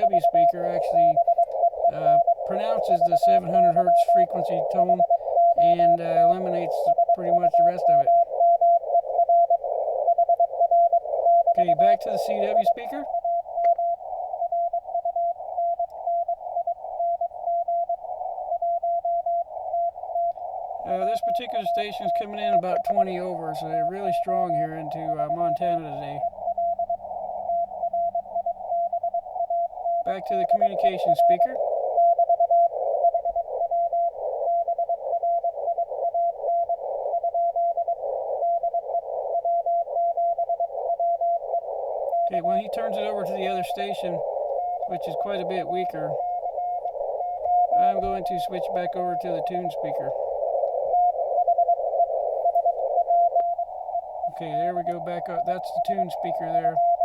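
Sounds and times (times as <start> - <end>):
morse code tone: 0.0 - 37.8, 42.1 - 50.2, 52.4 - 57.0
radio static hiss: 0.0 - 57.0.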